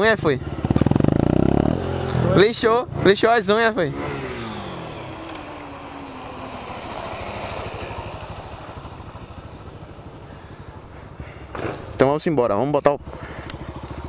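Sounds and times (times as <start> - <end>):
motorcycle engine passing: 0.4 - 12.2, 13.0 - 14.0.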